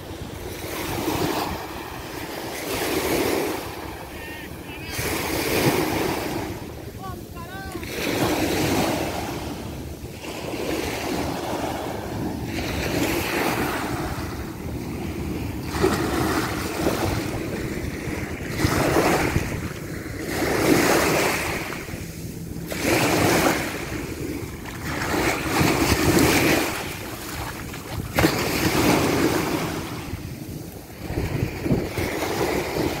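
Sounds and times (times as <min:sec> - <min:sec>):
waves washing onto shore: 0:00.0 - 0:33.0
wind on microphone: 0:00.0 - 0:33.0.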